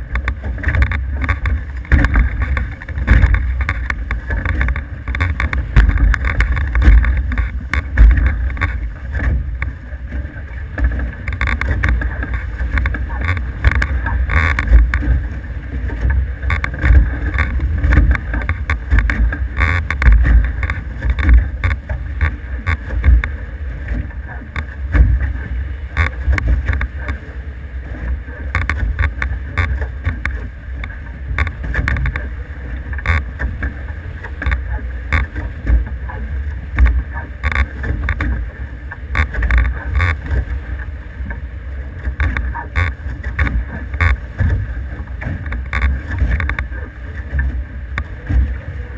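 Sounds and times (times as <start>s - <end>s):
water noise: 0.0s - 48.9s.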